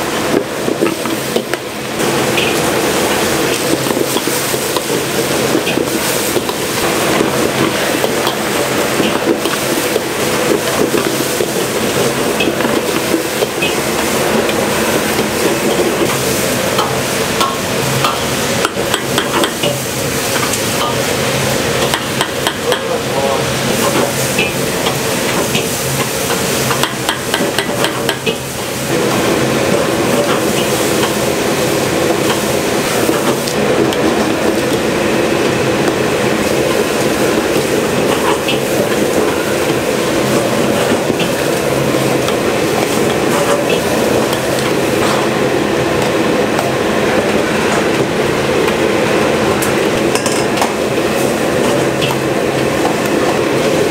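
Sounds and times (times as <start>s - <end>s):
food sizzling in a wok: 0.0s - 53.9s
loud gas burner: 0.0s - 53.9s.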